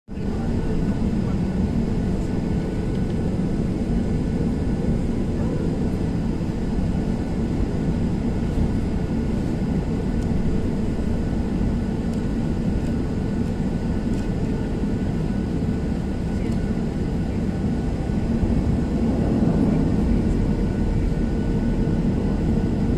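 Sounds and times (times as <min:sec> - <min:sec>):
jet engines rumbling in cabin: 0:00.1 - 0:22.9.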